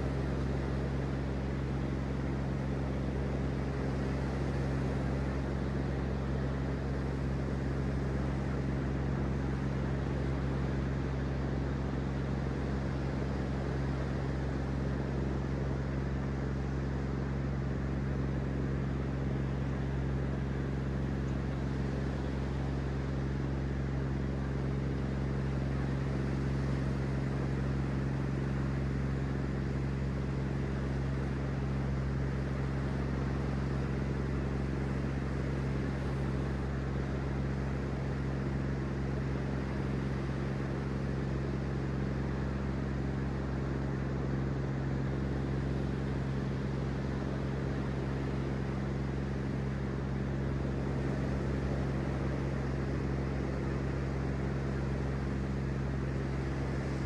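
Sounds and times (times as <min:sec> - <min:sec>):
low hum of held tones: 0:00.0 - 0:57.0.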